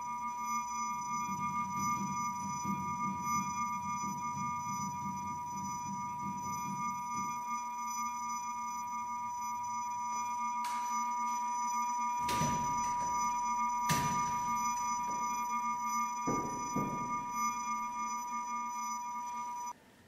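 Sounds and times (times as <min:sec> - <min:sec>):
steady electronic tone: 0:00.0 - 0:19.7.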